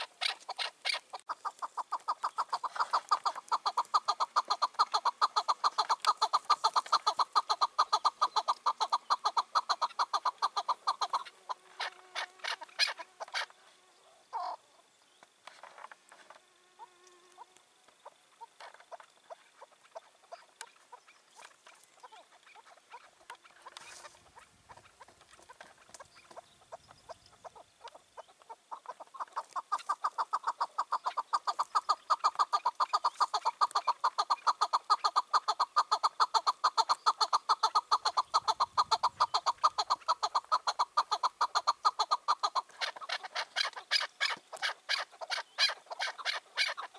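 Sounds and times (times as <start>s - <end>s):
partridge calling: 0.0s - 15.9s, 17.4s - 46.9s.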